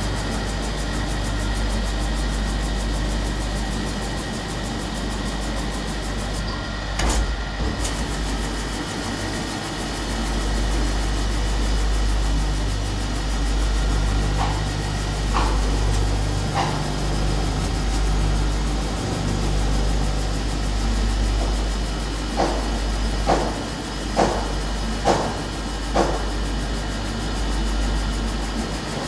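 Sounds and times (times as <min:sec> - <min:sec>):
polishing machine motor hum: 0:00.0 - 0:24.0
thin constant whine: 0:00.0 - 0:29.0.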